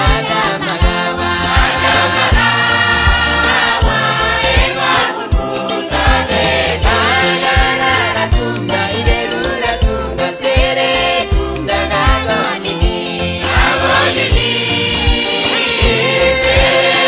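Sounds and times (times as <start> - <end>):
choir singing gospel song: 0.0 - 17.0
low drum beat: 0.8 - 16.9.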